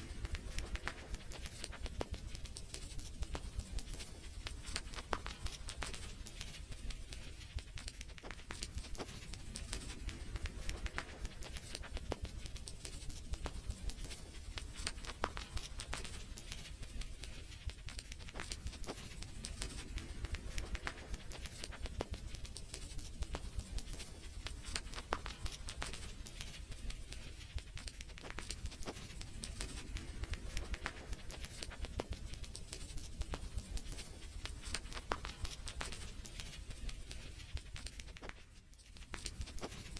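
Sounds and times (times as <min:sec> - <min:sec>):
fire pops and snaps: 0:00.0 - 0:39.9.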